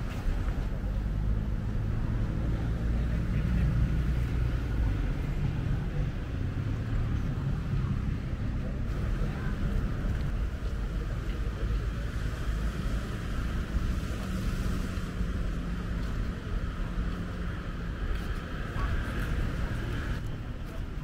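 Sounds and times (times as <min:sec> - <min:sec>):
faint voices: 0:00.0 - 0:21.0
low engine rumble: 0:00.0 - 0:21.0.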